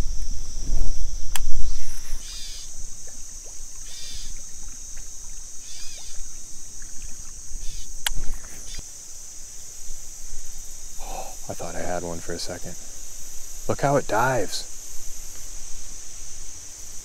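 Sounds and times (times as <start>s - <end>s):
crickets shrilling: 0.0s - 17.0s.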